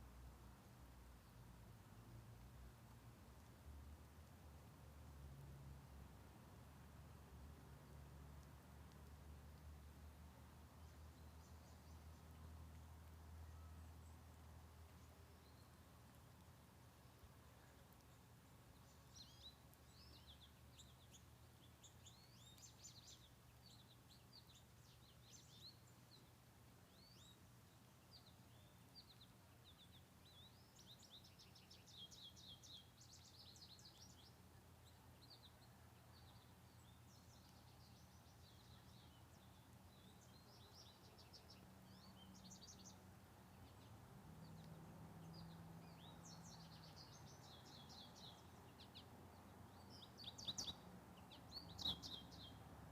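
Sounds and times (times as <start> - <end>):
faint songbirds twittering: 0.0 - 52.9.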